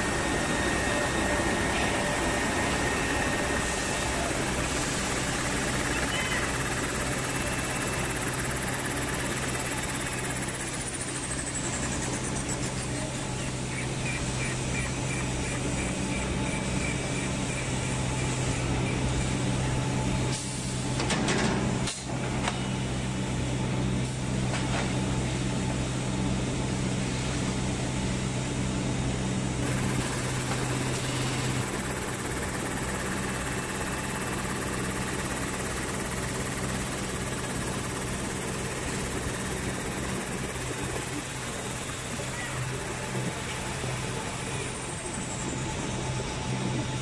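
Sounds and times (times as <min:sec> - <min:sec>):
low machine drone: 0:00.0 - 0:47.0
steady mechanical machine noise: 0:00.0 - 0:47.0.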